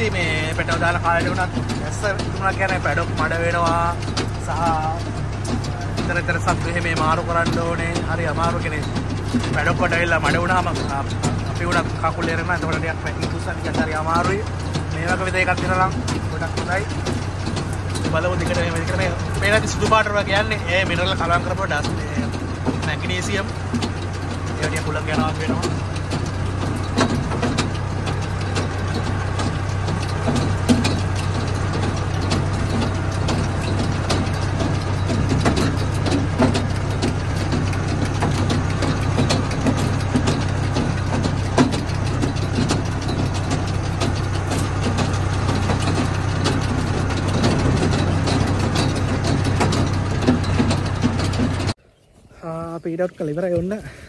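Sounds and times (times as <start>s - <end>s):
conveyor clattering knocks: 0.0s - 51.8s
tractor engine running: 0.0s - 54.0s.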